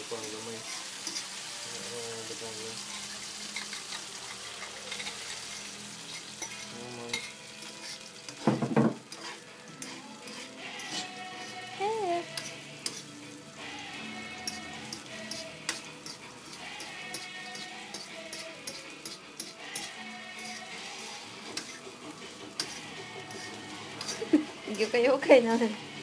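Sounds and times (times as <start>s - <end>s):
onion and egg frying in oil: 0.0s - 26.0s.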